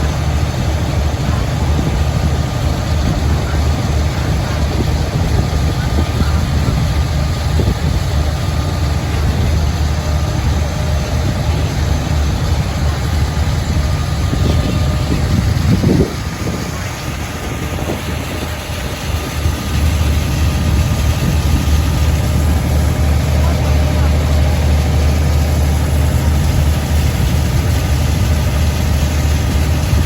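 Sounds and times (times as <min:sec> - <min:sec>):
boat diesel engine drone: 0:00.0 - 0:30.0
water and wind noise: 0:00.0 - 0:30.0.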